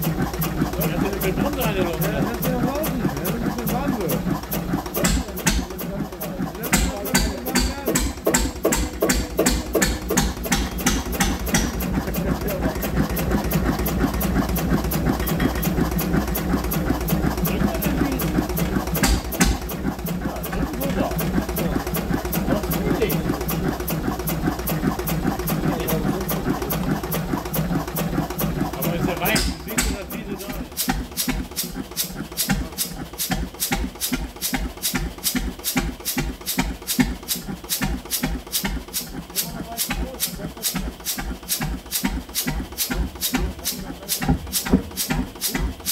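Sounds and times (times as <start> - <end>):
stationary engine running: 0.0 - 45.9.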